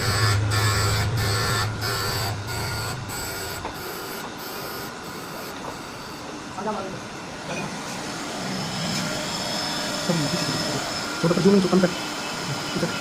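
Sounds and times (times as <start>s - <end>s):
workshop machine pulsing hum: 0.0s - 13.0s.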